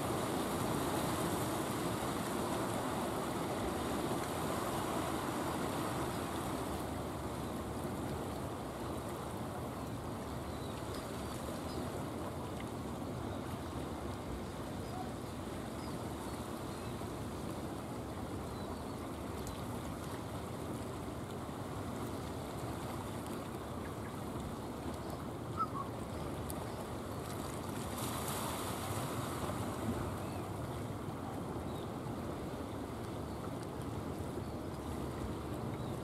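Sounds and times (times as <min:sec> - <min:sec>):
sea waves: 0:00.0 - 0:36.0
wind: 0:00.0 - 0:36.0.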